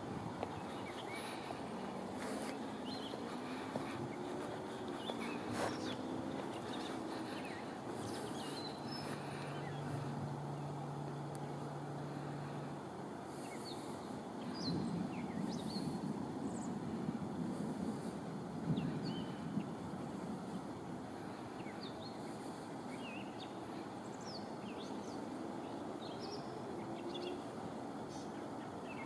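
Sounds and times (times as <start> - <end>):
low rumbling hiss: 0.0 - 29.0
low steady hum: 0.0 - 29.0.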